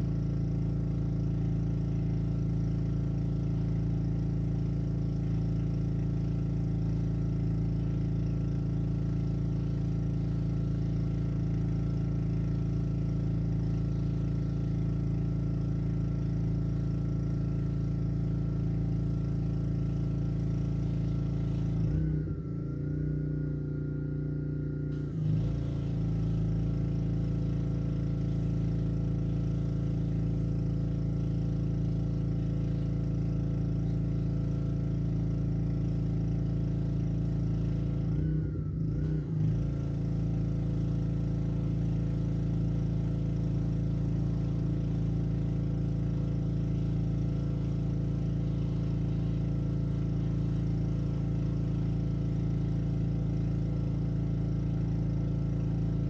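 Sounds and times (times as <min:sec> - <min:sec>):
pressure washer engine running: 0:00.0 - 0:56.0.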